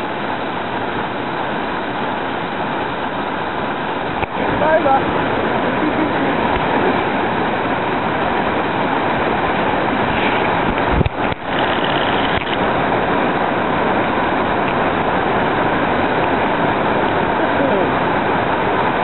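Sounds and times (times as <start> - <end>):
whitewater roaring over boulders: 0.0 - 19.0.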